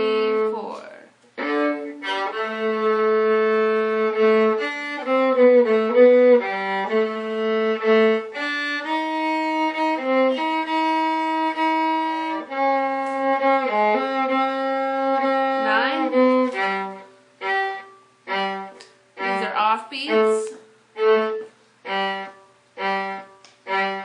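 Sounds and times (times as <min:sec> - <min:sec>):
viola playing bowed melody: 0:00.0 - 0:24.0.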